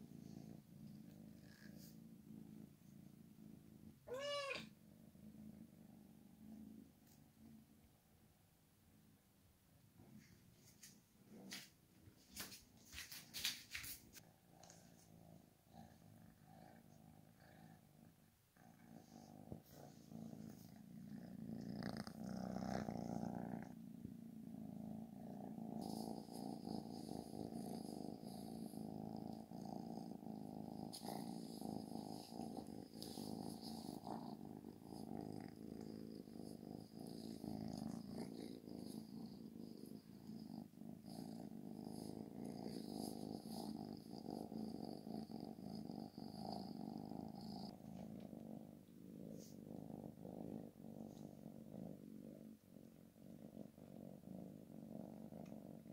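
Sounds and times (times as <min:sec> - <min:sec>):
kitten purring: 0:00.0 - 0:55.9.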